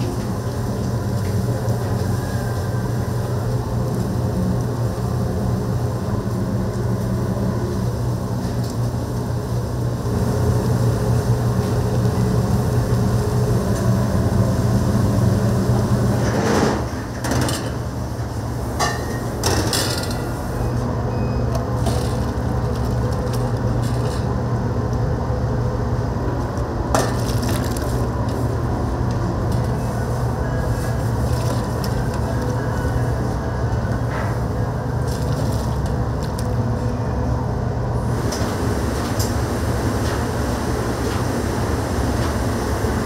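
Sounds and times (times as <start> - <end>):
low hum of kitchen equipment: 0.0 - 43.0.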